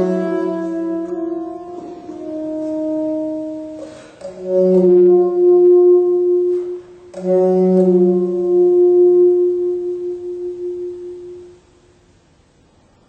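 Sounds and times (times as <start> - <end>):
alto saxophone long notes: 0.0 - 12.0.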